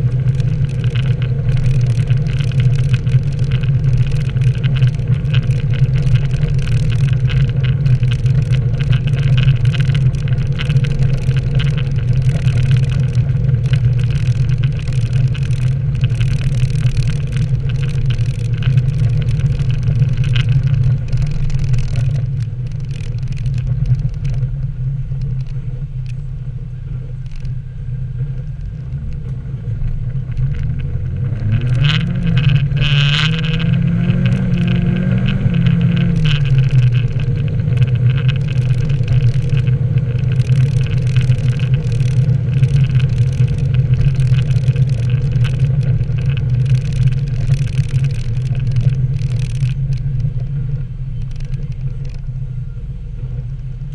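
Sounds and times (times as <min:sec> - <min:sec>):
car engine and exhaust droning: 0:00.0 - 0:53.9
road noise hiss: 0:00.0 - 0:53.9.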